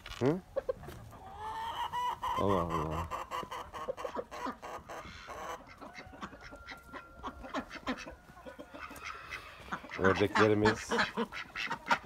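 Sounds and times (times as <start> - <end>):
ducks quacking: 0.6 - 12.0.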